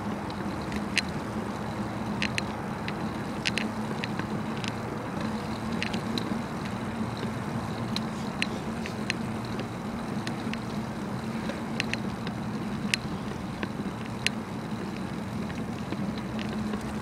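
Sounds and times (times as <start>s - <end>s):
bicycle clicks and rattles: 0.0s - 17.0s
bicycle tyres rolling: 0.0s - 17.0s.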